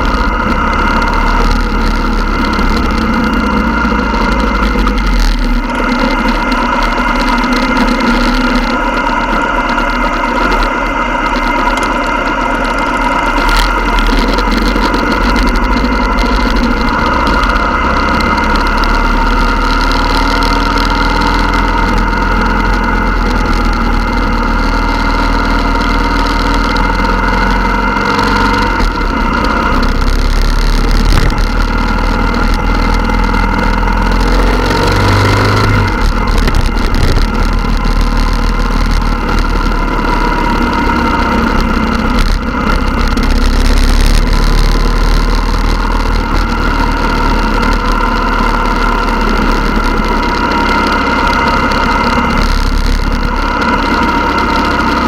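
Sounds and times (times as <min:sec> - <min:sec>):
motorcycle engines idling and revving: 0:00.0 - 0:55.0.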